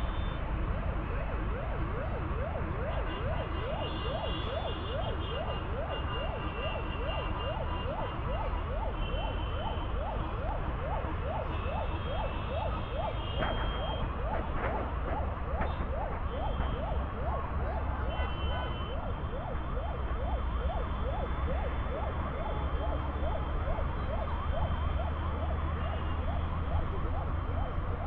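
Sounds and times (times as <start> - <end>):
low traffic rumble: 0.0 - 28.0
siren yelping: 1.3 - 28.0.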